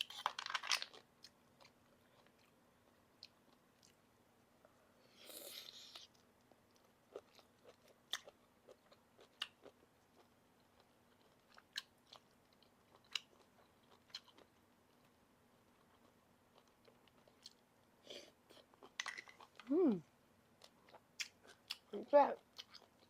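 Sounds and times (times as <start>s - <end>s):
person chewing crunchy food: 0.0s - 4.0s, 5.2s - 19.6s, 20.6s - 23.0s.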